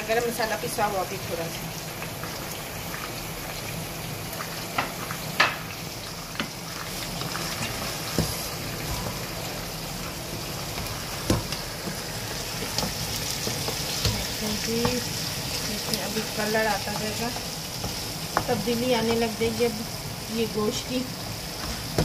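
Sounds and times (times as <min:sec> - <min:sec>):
meat sizzling in a wok: 0:00.0 - 0:22.0.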